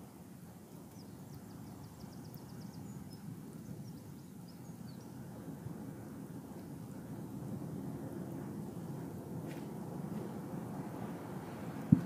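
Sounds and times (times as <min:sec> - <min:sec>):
seashore outdoor noise: 0:00.0 - 0:12.0.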